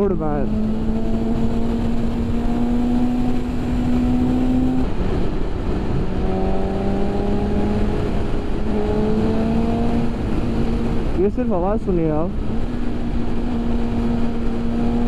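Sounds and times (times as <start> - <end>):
motorcycle engine at speed: 0.0 - 15.0
wind and road rush: 0.0 - 15.0.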